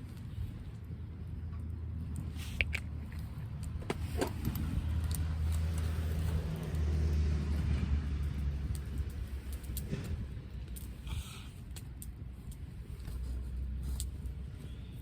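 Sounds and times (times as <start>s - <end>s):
wind buffeting microphone: 2.9s - 15.0s.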